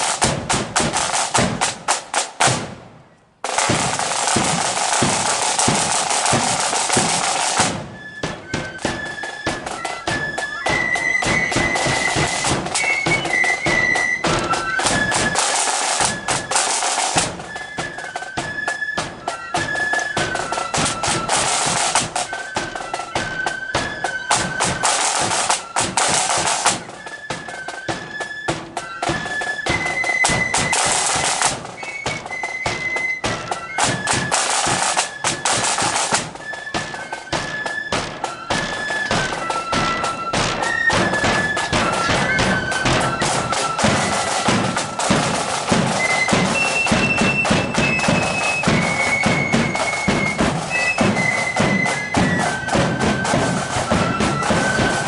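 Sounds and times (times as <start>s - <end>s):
drums beating: 0.0s - 55.0s
shrill flute melody: 3.5s - 55.0s.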